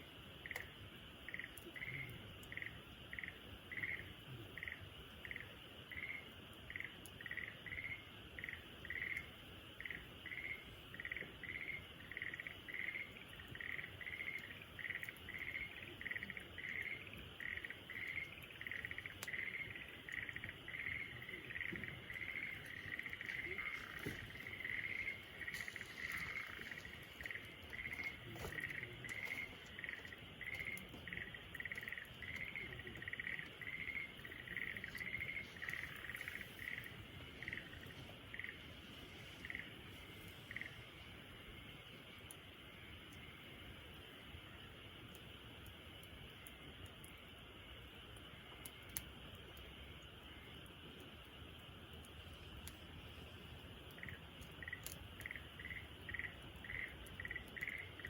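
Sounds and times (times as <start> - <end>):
crickets chirping: 0.0 - 58.0
faint steady hiss: 0.0 - 58.0
wood fire crackles: 0.0 - 58.0.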